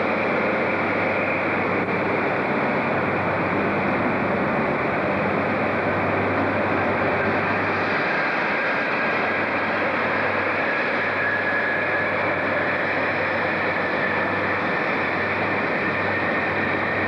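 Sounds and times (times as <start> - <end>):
diesel train engine rumble: 0.0 - 17.0
faint high whine: 0.0 - 17.0.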